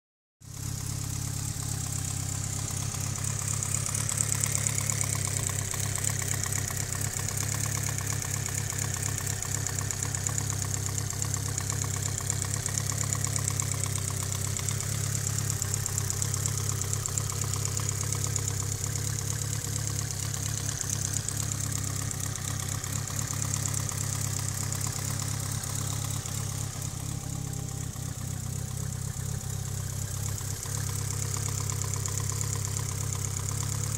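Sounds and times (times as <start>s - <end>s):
car engine idling: 0.5s - 33.9s.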